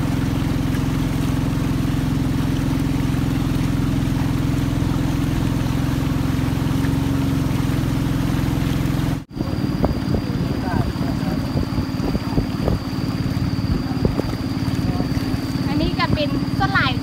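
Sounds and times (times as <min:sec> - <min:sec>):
boat motor drone: 0:00.0 - 0:17.0
steady high whine: 0:00.0 - 0:17.0
water noise: 0:00.0 - 0:17.0.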